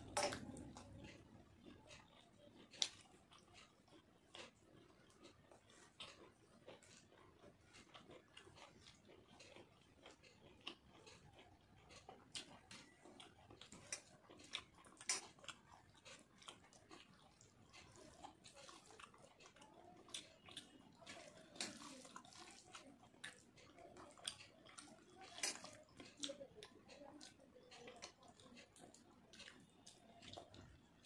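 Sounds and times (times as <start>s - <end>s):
chewing: 0.0s - 31.0s.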